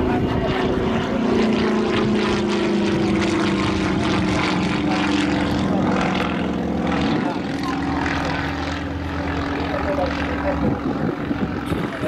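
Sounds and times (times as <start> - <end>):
radial engine and propeller drone: 0.0 - 12.0.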